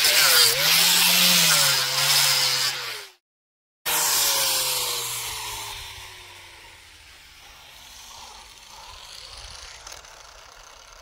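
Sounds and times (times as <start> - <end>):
angle grinder grinding wood: 0.0 - 3.2, 3.9 - 11.0.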